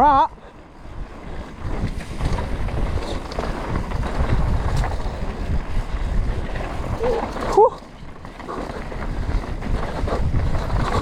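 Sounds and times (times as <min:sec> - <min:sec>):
tyres rumbling on dirt: 0:00.0 - 0:11.0
wind buffeting microphone: 0:00.0 - 0:11.0
bike knocks and rattles: 0:00.8 - 0:11.0.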